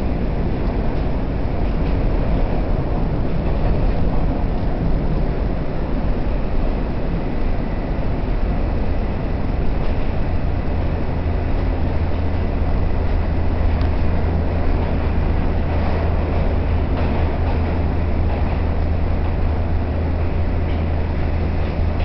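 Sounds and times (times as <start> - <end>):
subway car rumble and hum: 0.0 - 22.0
faint rail clicks: 0.1 - 6.8, 8.3 - 22.0.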